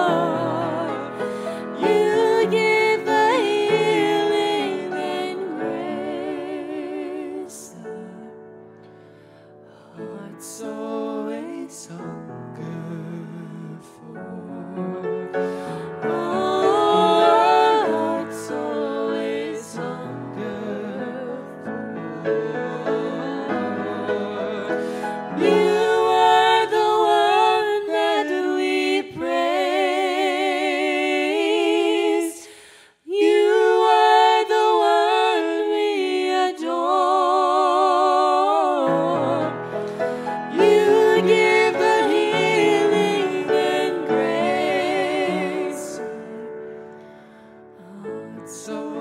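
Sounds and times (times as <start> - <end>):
woman and man singing: 0.0 - 8.3, 10.0 - 32.5, 33.1 - 46.4
piano: 0.0 - 49.0.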